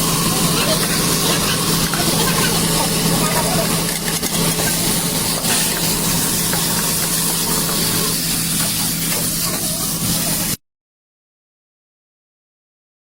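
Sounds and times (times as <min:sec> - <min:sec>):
chicken sizzling in hot oil: 0:00.0 - 0:10.6.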